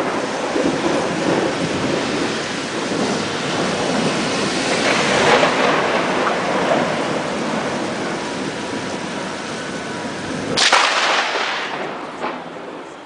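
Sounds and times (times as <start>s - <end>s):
heavy rain: 0.0s - 13.0s
rolling thunder: 0.0s - 13.0s.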